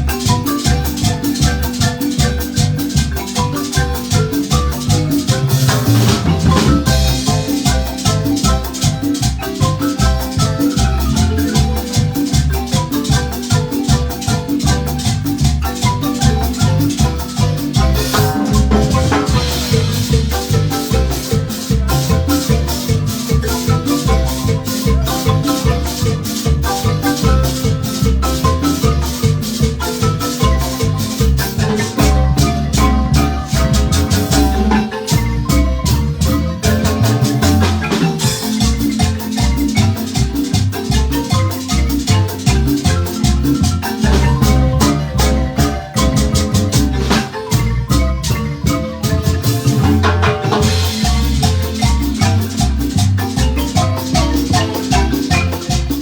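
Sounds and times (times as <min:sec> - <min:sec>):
marimba band playing dance tune: 0:00.0 - 0:56.0
rattling percussion: 0:00.0 - 0:56.0.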